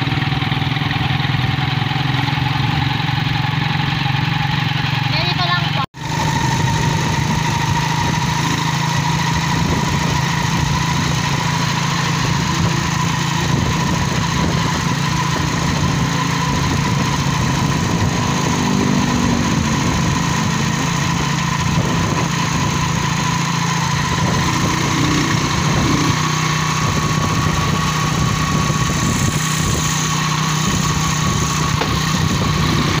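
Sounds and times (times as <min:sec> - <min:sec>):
vehicle engine droning: 0:00.0 - 0:33.0.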